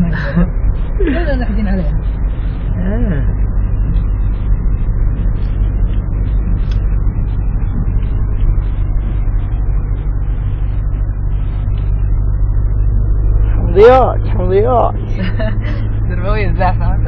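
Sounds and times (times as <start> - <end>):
car interior engine and tyre drone: 0.0 - 17.0.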